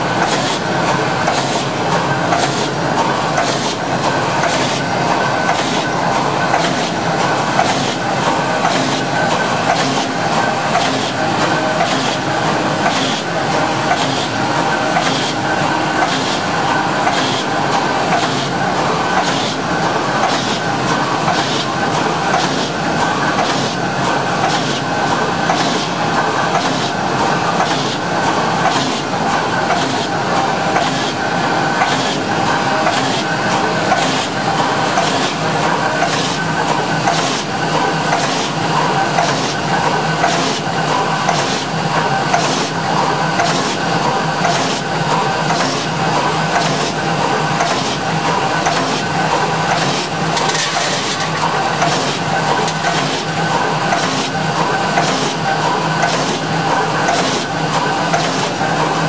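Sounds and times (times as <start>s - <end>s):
machine clatter and hum: 0.0s - 59.0s.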